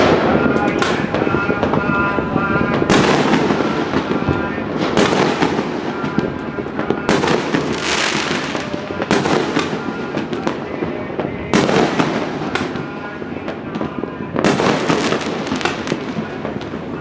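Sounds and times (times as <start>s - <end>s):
fireworks crackling and rumbling: 0.0s - 17.0s
loud firework bangs: 0.0s - 17.0s.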